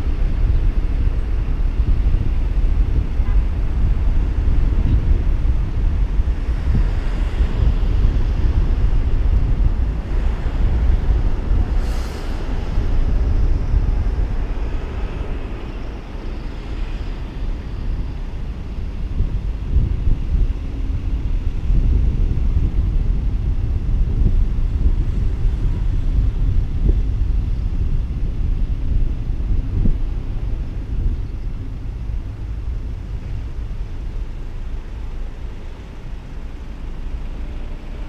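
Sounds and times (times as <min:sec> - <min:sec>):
car road and engine rumble: 0:00.0 - 0:38.0
wind buffeting microphone: 0:00.0 - 0:38.0.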